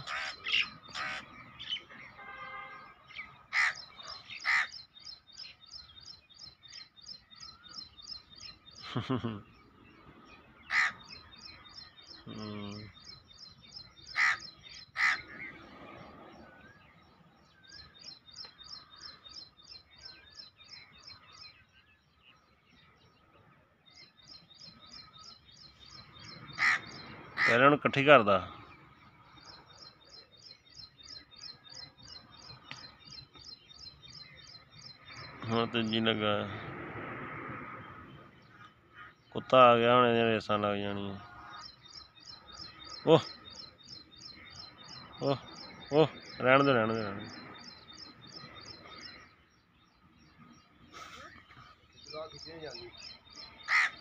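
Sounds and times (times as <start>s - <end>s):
birds chirping: 0.0s - 54.0s
harsh bird calls: 0.0s - 54.0s.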